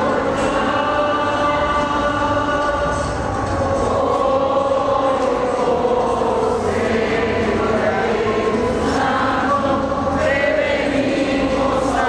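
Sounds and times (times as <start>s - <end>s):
group singing a hymn: 0.0s - 12.0s.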